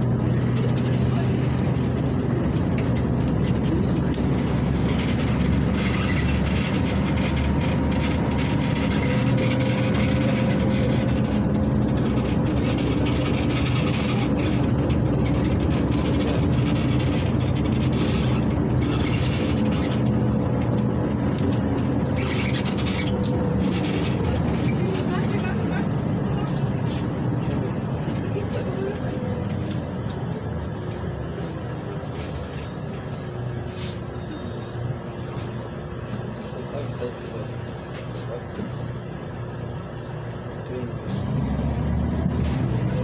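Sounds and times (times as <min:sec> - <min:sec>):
bus diesel engine running: 0:00.0 - 0:43.0
tyre and road noise: 0:00.0 - 0:43.0.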